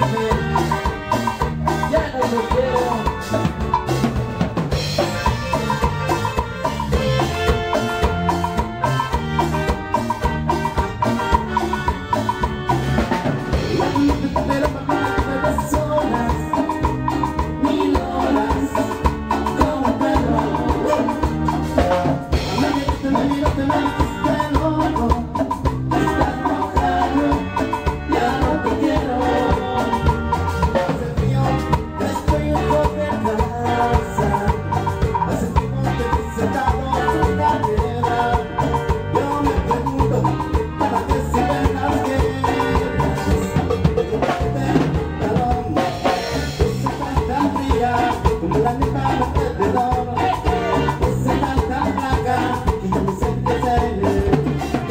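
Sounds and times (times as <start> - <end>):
band playing latin dance music: 0.0 - 54.9.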